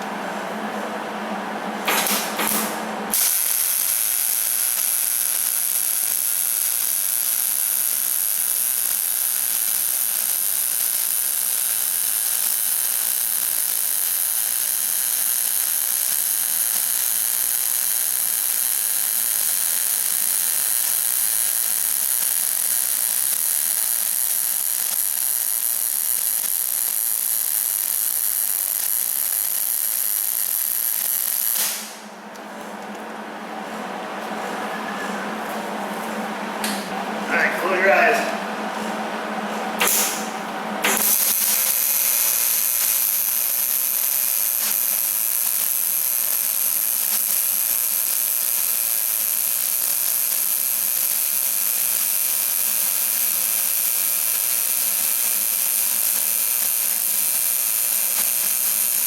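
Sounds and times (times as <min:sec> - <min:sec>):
welding arc hissing crackle: 0:01.8 - 0:32.2, 0:39.8 - 0:59.0.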